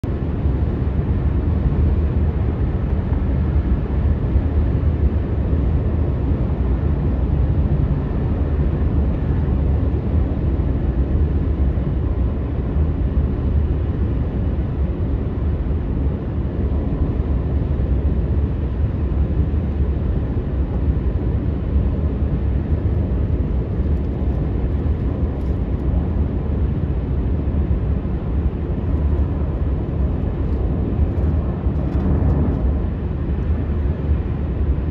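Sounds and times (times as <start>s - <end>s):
car interior road rumble: 0.1s - 34.9s.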